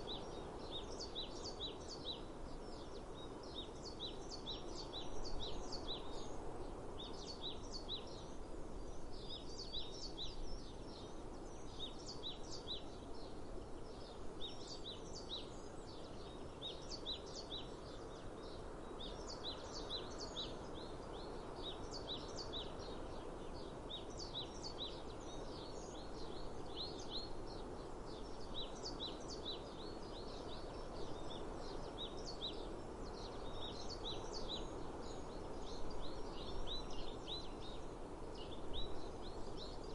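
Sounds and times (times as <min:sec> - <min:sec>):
open air background noise: 0:00.0 - 0:39.9
songbirds chirping: 0:00.0 - 0:39.9.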